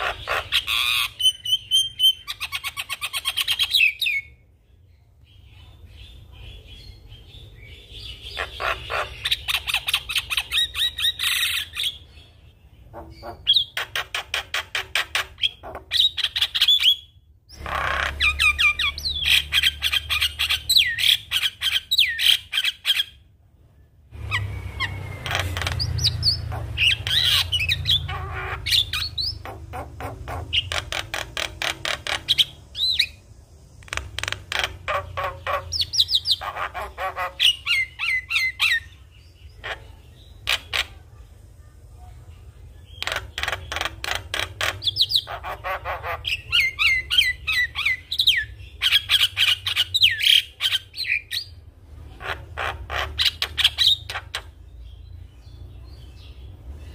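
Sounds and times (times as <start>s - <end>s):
bird chattering and whistling: 0.0s - 4.4s, 5.9s - 23.2s, 24.2s - 33.2s, 33.8s - 41.0s, 42.8s - 55.1s.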